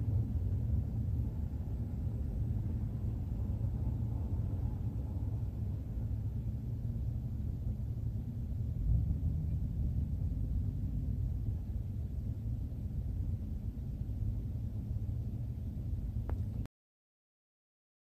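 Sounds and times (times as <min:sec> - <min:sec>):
low rumble of street traffic: 0:00.0 - 0:16.7.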